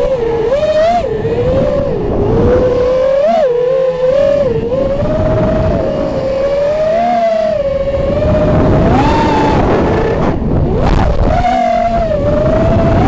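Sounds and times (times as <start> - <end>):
wind rushing: 0.0 - 3.2, 4.0 - 13.0
drone motors whining: 0.0 - 13.0.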